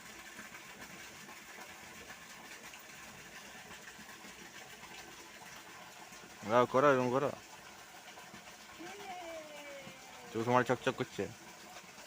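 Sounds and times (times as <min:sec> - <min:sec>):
faint rush of pouring water: 0:00.0 - 0:12.0.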